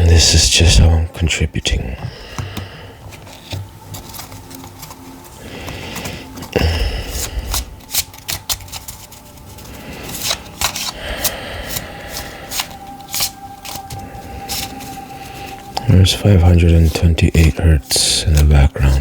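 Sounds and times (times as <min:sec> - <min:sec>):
steady background tone: 0:00.0 - 0:19.0
cards being shuffled: 0:02.3 - 0:19.0.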